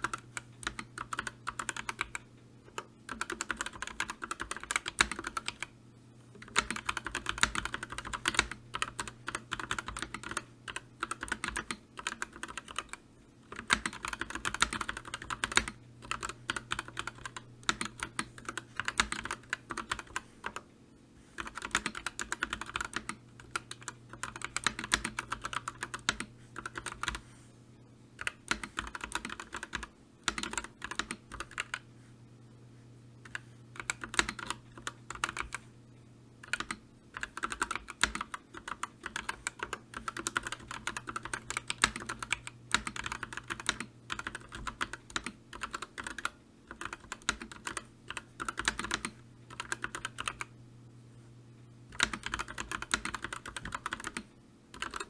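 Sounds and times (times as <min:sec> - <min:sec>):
fast typing on a keyboard: 0:00.0 - 0:05.7, 0:06.4 - 0:20.6, 0:21.4 - 0:27.2, 0:28.2 - 0:31.8, 0:33.3 - 0:35.6, 0:36.4 - 0:50.5, 0:51.9 - 0:55.0
faint steady hum: 0:00.0 - 0:55.0.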